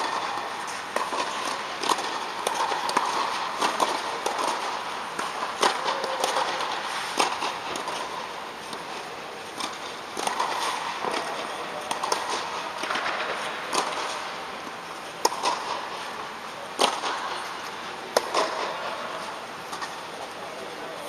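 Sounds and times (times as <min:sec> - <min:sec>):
tennis balls bouncing on court: 0:00.0 - 0:20.1
tennis balls struck by rackets: 0:00.0 - 0:20.2.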